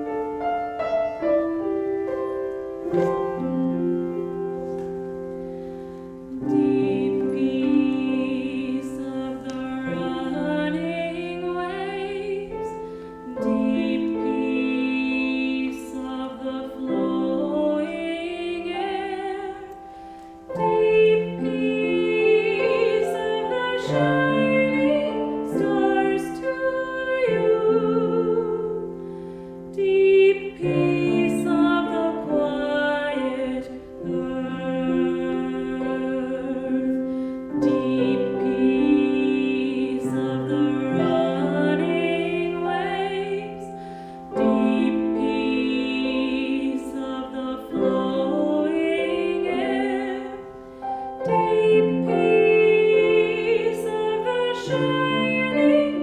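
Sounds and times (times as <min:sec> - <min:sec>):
slow meditative music: 0:00.0 - 0:56.0.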